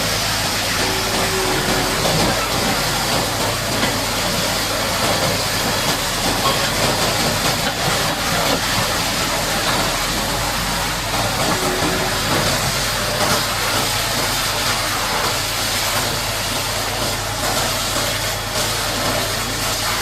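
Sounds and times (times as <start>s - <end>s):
engine running: 0.0s - 20.0s
water jet spraying and hissing: 0.0s - 20.0s.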